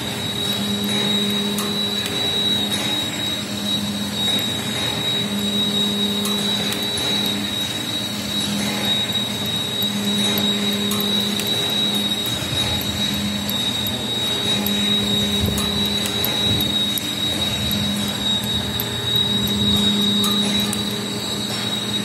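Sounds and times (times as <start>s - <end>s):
high-pitched machine drive whine: 0.0s - 22.0s.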